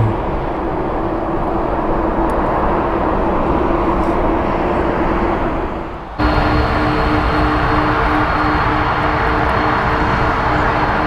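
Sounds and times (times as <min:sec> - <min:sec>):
jet engines rushing: 0:00.0 - 0:11.0
steady low hum: 0:00.0 - 0:11.0.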